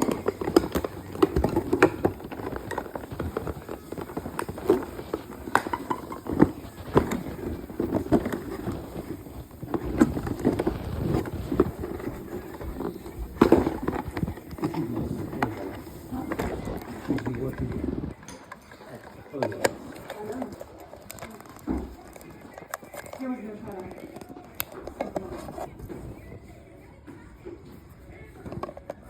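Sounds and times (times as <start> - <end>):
plastic packaging rustling: 0.0 - 25.9.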